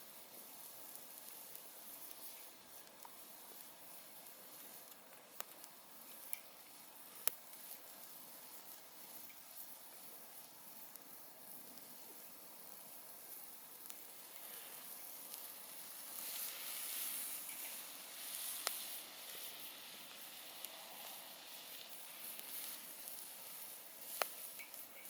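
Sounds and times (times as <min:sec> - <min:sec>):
campfire hissing and crackling: 0:00.0 - 0:25.0
sharp pops of fire: 0:00.1 - 0:25.0.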